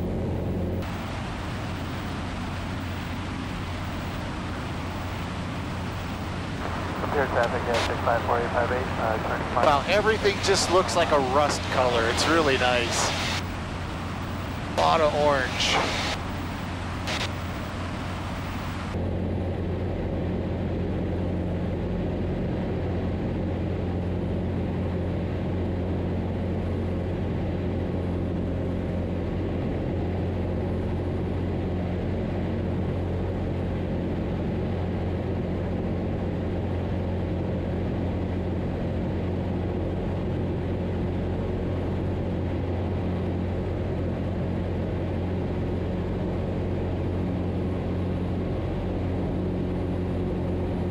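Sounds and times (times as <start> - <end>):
aircraft engine and propeller droning: 0.0 - 50.9.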